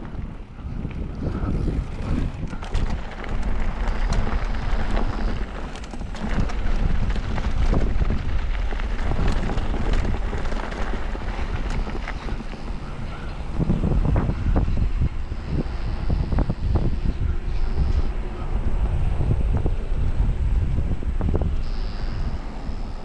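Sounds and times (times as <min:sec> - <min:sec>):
bike clicks and rattles: 0:00.0 - 0:19.0
bike tyres rolling on rough trail: 0:00.0 - 0:23.0
wind buffeting microphone: 0:00.0 - 0:23.0.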